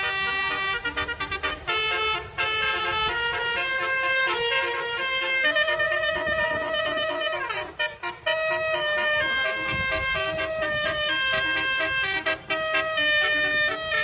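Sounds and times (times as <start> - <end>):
musical horn playing a tune: 0.0 - 14.0.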